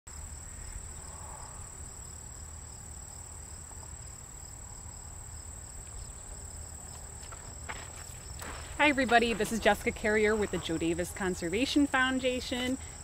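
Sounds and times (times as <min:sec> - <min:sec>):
crickets trilling: 0:00.1 - 0:13.0.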